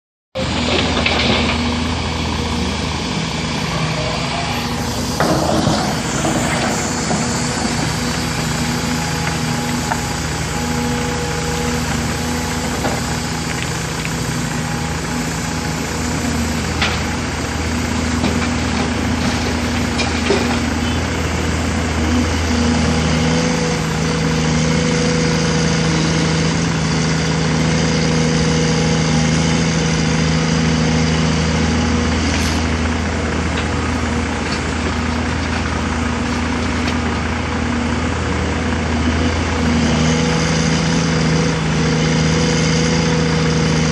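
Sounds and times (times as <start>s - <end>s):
excavator diesel engine running: 0.4s - 43.9s.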